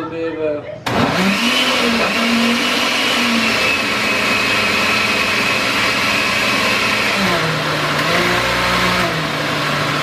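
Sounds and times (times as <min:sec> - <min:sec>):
blender motor whining: 0:00.9 - 0:10.0.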